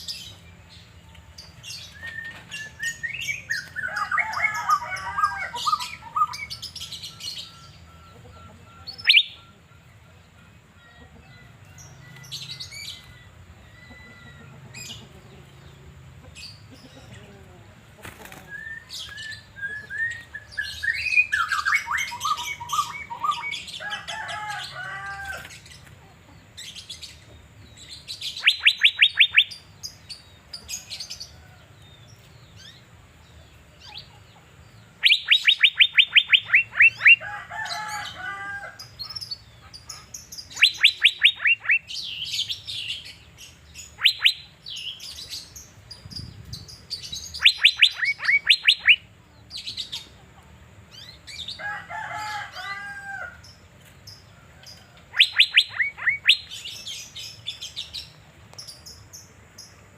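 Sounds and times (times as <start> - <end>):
bird singing warbled phrases: 0.0 - 31.3, 32.0 - 52.7, 53.3 - 59.9.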